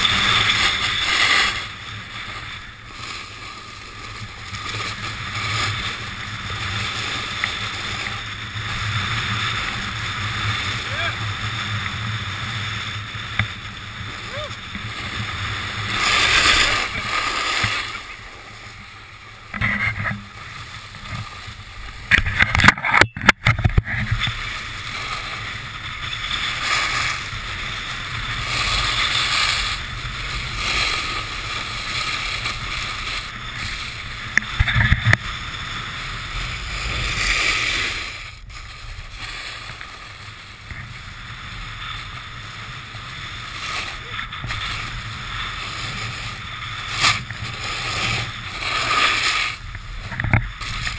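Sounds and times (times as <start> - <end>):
board edges scraping snow: 0.0 - 50.9.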